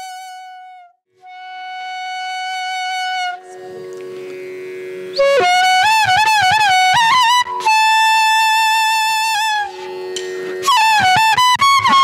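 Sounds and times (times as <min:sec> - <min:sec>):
violin melody: 0:00.0 - 0:12.0.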